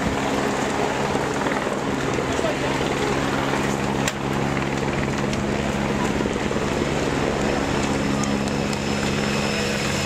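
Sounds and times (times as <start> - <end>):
engine drone: 0.0 - 10.0
wind noise on microphone: 0.0 - 10.0.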